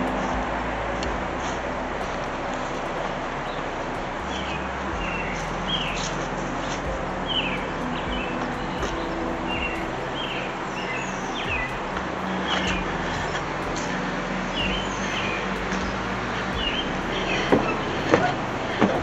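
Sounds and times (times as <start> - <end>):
small songbirds chirping: 0.0 - 19.0
steady low hum: 0.0 - 19.0.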